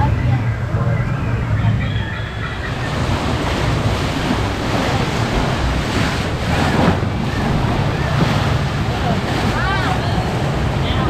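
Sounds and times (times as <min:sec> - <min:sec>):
white water rushing and splashing: 0:00.0 - 0:11.0.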